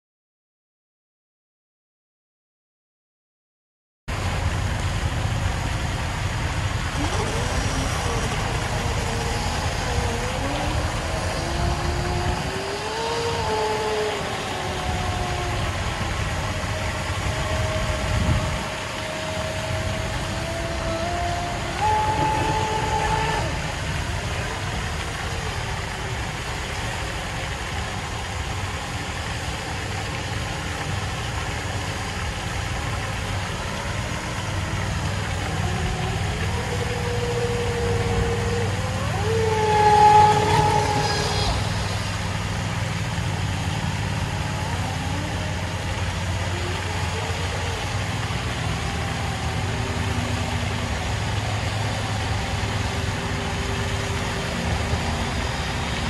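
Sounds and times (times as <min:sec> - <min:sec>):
electric motor whine: 0:05.0 - 0:56.0
hiss: 0:05.6 - 0:56.0.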